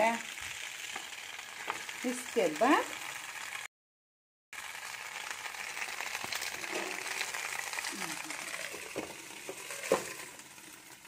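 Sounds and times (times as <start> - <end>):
fish sizzling in a pan: 0.0 - 3.7, 4.6 - 11.0.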